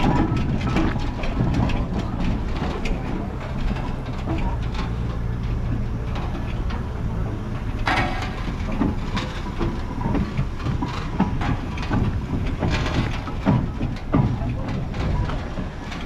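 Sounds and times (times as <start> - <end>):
mechanical knocks and clanks: 0.0 - 16.0
steam engine running: 0.0 - 16.0.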